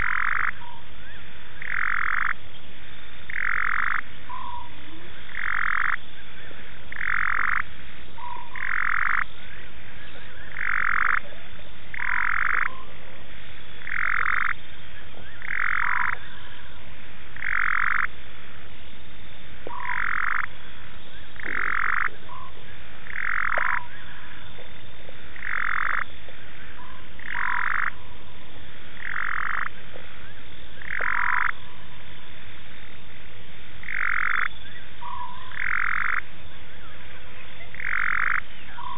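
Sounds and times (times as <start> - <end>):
frogs calling: 0.0 - 38.9.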